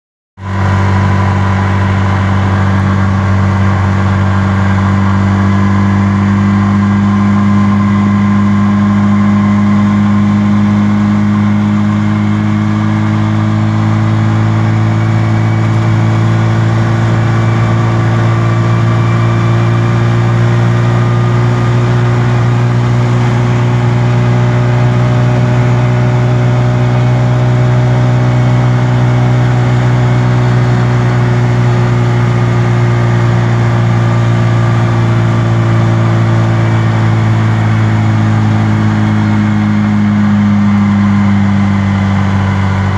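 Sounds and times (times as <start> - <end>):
rickshaw engine under full throttle: 0.4 - 42.9.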